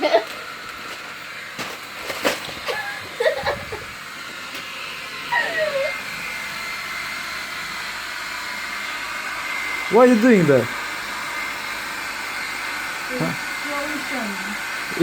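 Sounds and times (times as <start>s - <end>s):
hair dryer blowing: 0.0s - 15.0s.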